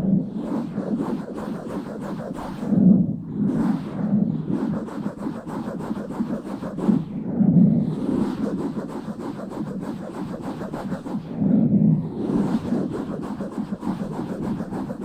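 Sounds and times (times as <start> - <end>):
scratching on microphone: 0.0 - 15.0.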